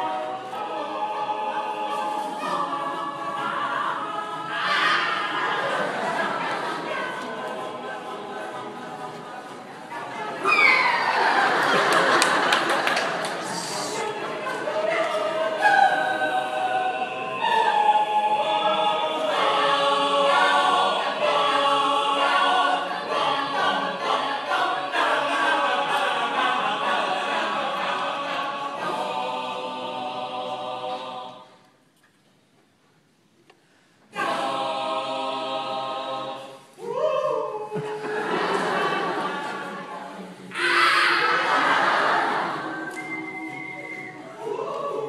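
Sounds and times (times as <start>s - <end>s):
mixed choir singing a cappella: 0.0s - 31.9s, 33.8s - 45.0s.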